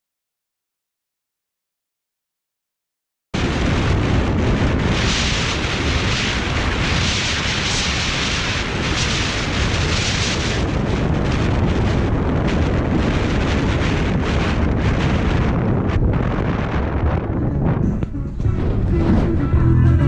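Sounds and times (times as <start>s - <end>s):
loud rushing noise with rumble: 3.4s - 20.0s.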